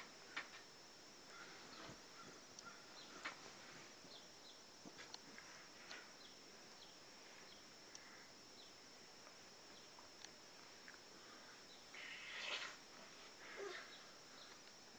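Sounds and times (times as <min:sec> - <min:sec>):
faint hiss: 0:00.0 - 0:14.9.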